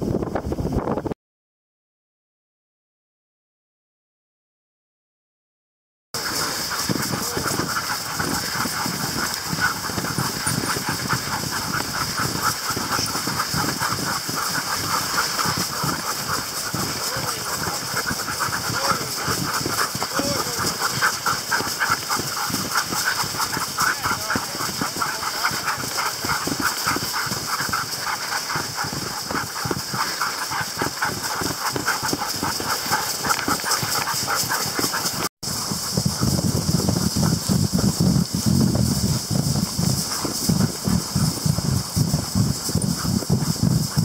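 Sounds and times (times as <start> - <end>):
dogs panting: 6.2 - 44.0
sled hissing over snow: 6.2 - 44.0.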